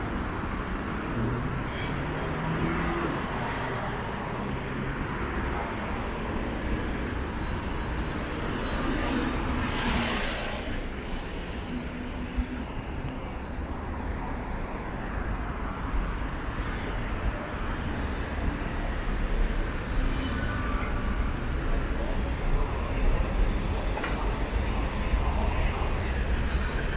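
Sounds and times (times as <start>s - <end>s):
rumble of street traffic: 0.0s - 26.9s.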